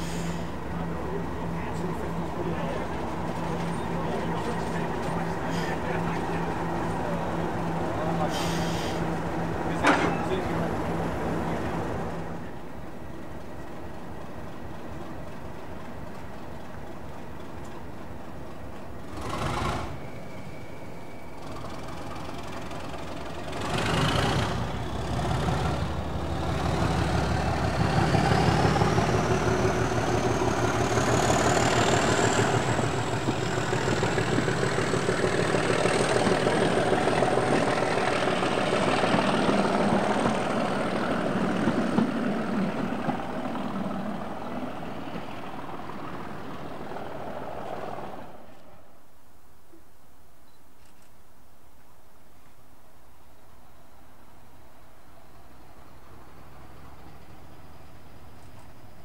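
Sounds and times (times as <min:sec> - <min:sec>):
diesel train engine running: 0:00.0 - 0:48.6, 0:55.0 - 0:59.0.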